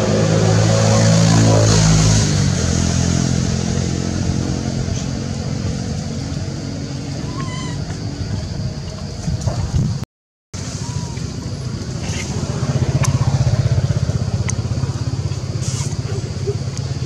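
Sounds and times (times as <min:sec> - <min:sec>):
passing vehicle engine: 0:00.0 - 0:08.0, 0:10.6 - 0:17.0.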